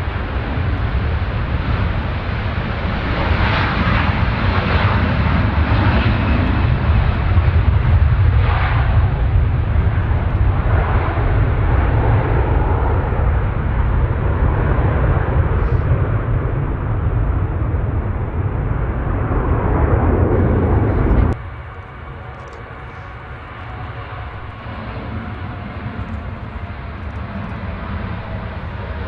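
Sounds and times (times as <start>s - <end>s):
jet engine rumble: 0.0s - 29.0s.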